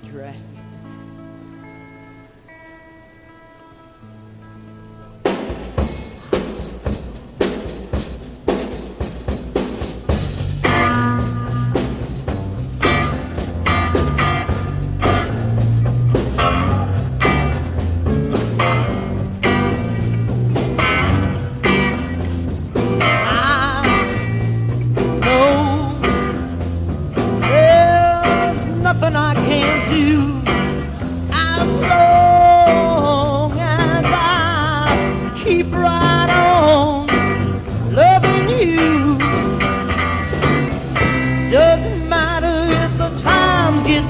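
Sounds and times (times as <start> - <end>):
electric guitar lead with bends: 0.0 - 44.0
rock band playing: 0.0 - 44.0.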